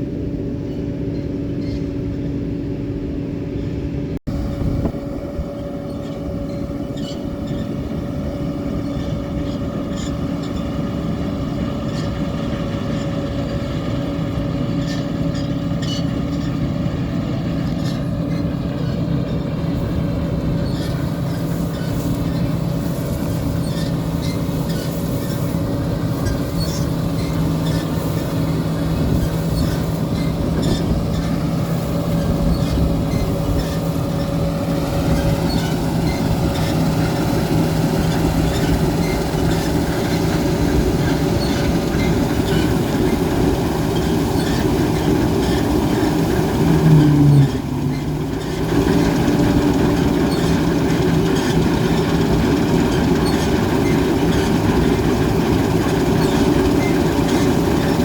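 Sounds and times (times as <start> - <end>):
diesel farm machine droning: 0.0 - 58.0.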